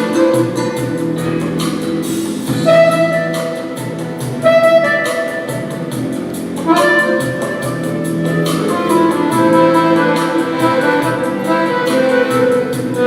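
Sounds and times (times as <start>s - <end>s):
instrumental melody of held notes: 0.0s - 13.0s
lower accompaniment: 0.0s - 13.0s.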